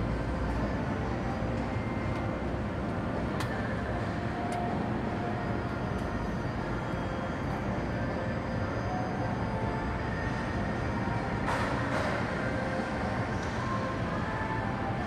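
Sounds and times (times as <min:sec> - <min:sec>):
city traffic passing: 0:00.0 - 0:15.0.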